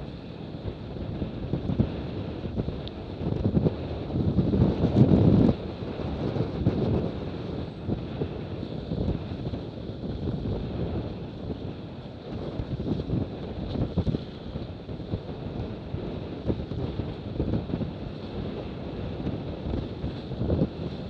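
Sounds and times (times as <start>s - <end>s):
water rushing along hulls: 0.0s - 21.0s
wind buffeting microphone: 0.0s - 21.0s.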